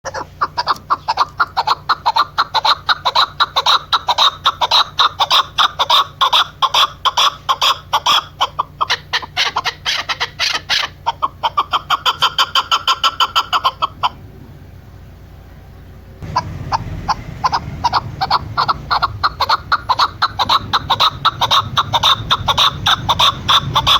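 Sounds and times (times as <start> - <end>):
partridge calling: 0.0 - 14.4, 16.2 - 23.9.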